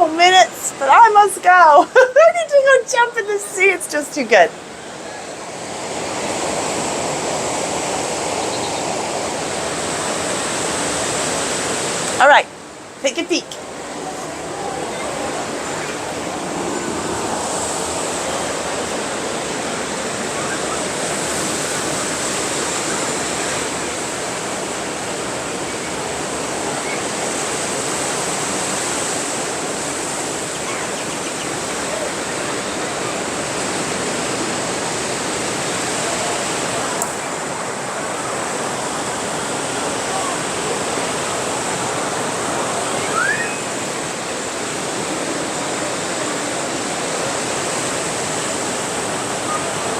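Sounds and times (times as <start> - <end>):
sea surf washing onto beach: 0.0 - 49.9.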